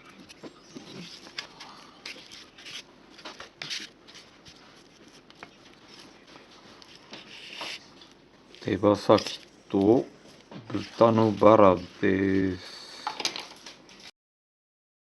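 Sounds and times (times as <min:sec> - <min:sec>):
rustling of things handled: 0:00.0 - 0:14.1.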